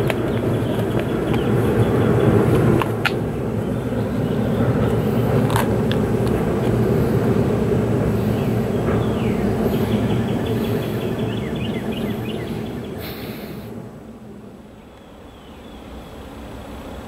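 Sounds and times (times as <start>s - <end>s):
freight train rumbling: 0.0s - 15.0s.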